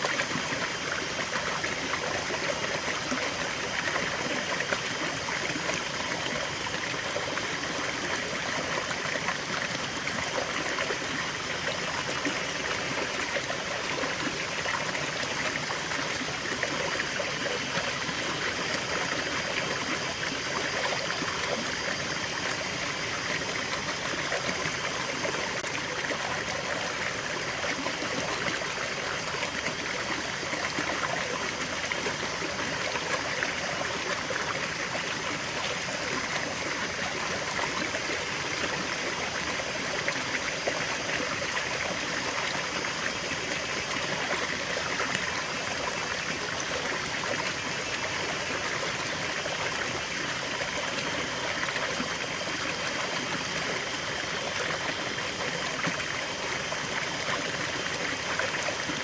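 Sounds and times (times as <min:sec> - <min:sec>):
stream trickling over stones: 0:00.0 - 0:59.0.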